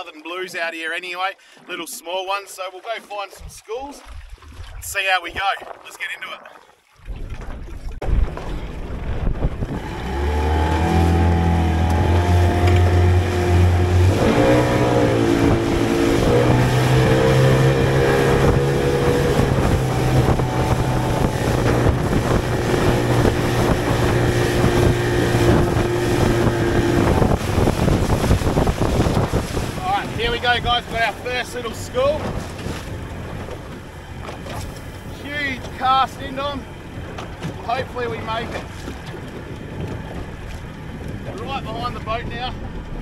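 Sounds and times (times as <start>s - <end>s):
water rushing along hull: 0.0s - 43.0s
wind on microphone: 3.4s - 43.0s
outboard motor running: 6.7s - 43.0s.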